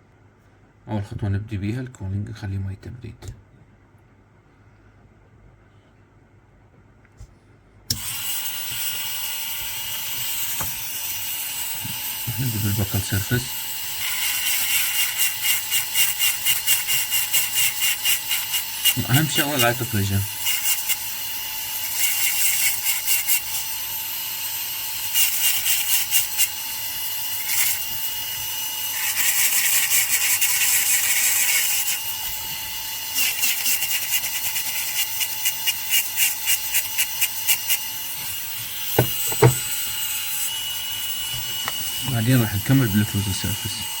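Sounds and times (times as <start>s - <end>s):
dental drill whining and grinding: 7.9s - 44.0s.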